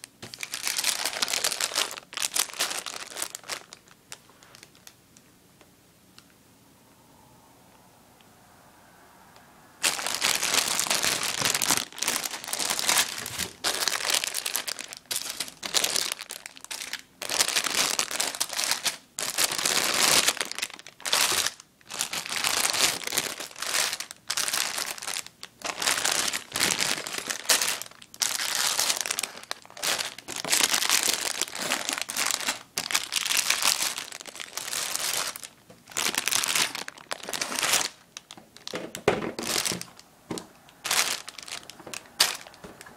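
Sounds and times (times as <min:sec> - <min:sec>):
plastic bags crinkling: 0:00.0 - 0:05.0, 0:09.8 - 0:42.9.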